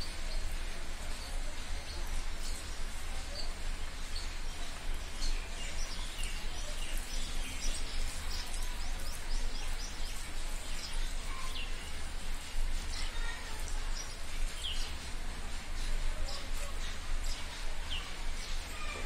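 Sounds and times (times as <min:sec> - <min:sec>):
steady low hum and hiss: 0:00.0 - 0:18.9
small birds chirping: 0:00.0 - 0:19.0.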